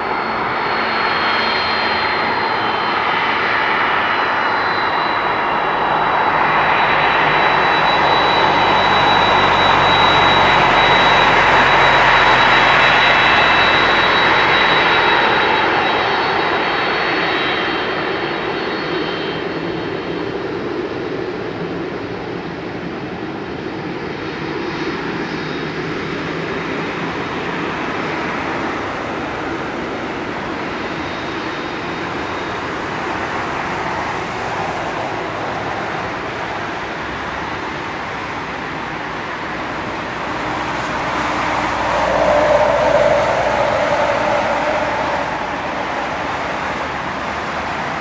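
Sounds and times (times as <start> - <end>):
jet engines rumbling: 0.0 - 48.0.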